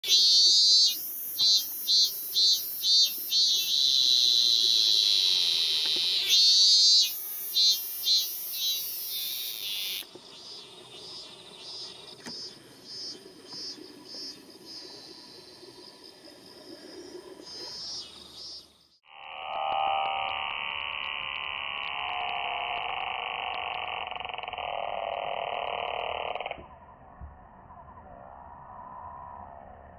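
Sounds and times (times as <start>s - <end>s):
cicada singing pulsed drone: 0.0s - 16.2s, 16.9s - 26.6s.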